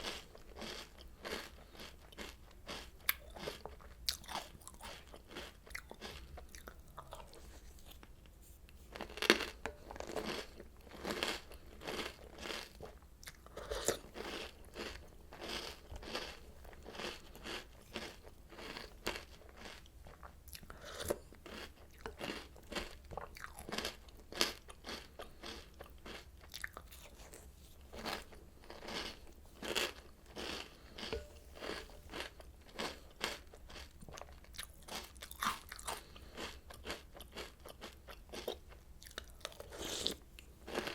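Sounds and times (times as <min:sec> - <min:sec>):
person chewing crunchy cereal: 0:00.0 - 0:40.9.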